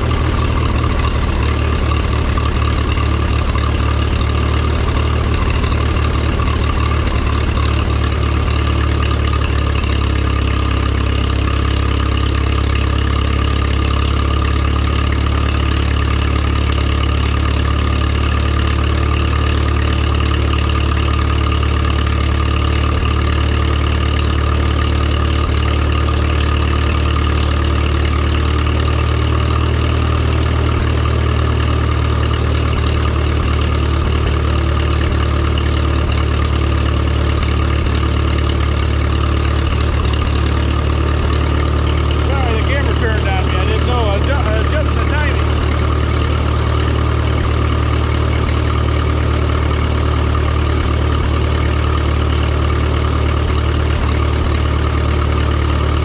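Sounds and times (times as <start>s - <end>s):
tractor engine running steadily: 0.0s - 56.0s.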